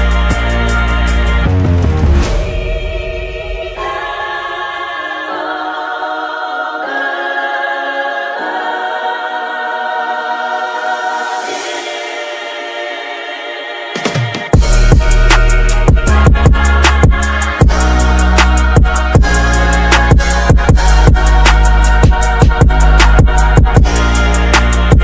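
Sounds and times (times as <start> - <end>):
choir-like chords: 0.0 - 25.0.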